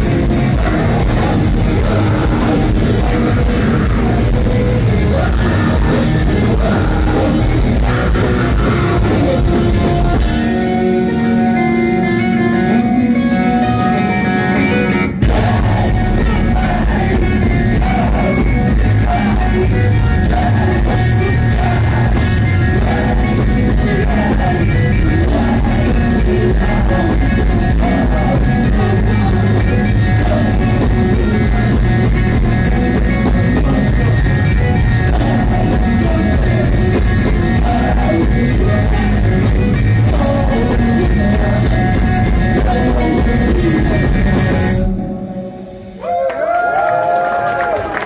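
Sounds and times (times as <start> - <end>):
person singing: 0.0 - 11.3, 15.0 - 45.1
drum kit: 0.0 - 11.6, 15.0 - 45.0
electric guitars: 0.0 - 48.0
live rock band playing: 0.0 - 48.0.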